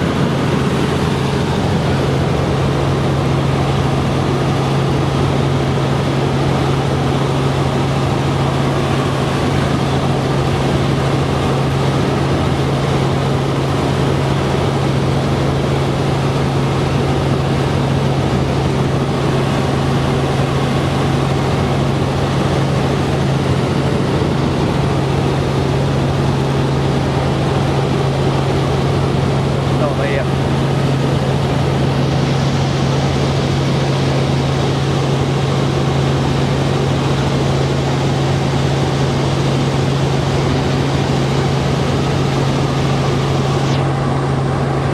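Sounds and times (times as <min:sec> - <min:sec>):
helicopter engine and rotors: 0:00.0 - 0:44.9.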